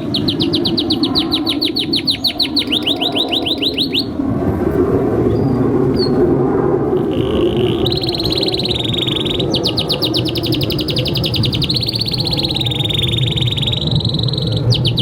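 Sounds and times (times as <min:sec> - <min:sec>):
canary singing a fast trill: 0:00.0 - 0:04.2, 0:07.0 - 0:15.0.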